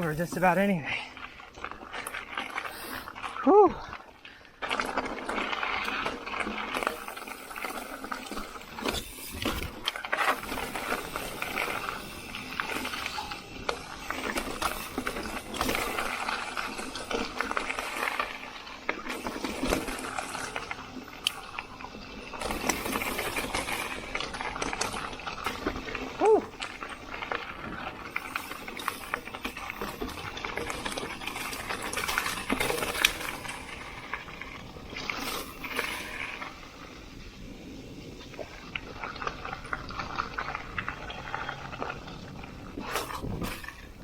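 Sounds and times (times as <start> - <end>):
bike clicks and rattles over roots: 0.0 - 44.0
mountain bike tyres rolling: 0.0 - 44.0.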